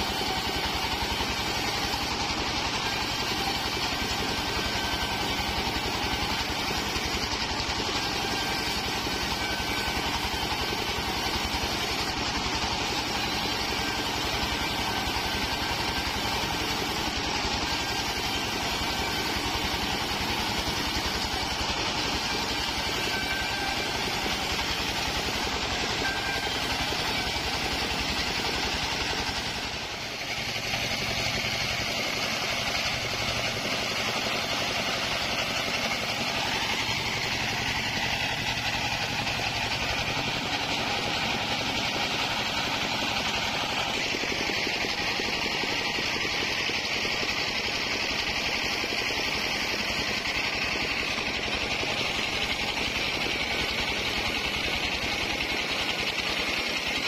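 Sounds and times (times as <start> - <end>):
bandsaw blade cutting planks: 0.0 - 57.0
diesel engine running: 0.0 - 57.0.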